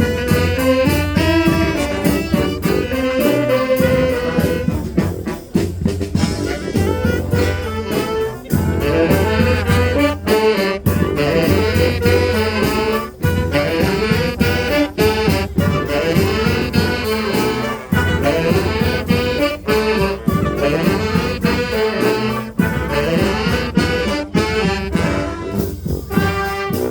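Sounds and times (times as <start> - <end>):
brass band playing: 0.0 - 26.9.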